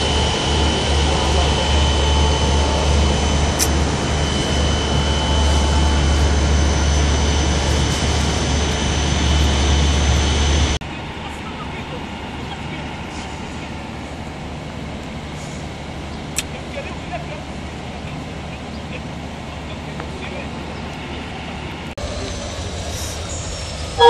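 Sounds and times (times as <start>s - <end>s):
high-pitched whine: 0.0s - 19.0s, 19.7s - 24.0s
train mechanical drone: 0.0s - 24.0s.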